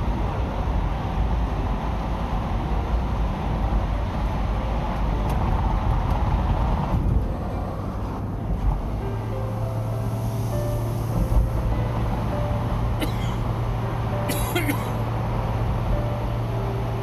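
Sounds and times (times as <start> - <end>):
road and tyre noise in car: 0.0 - 17.0.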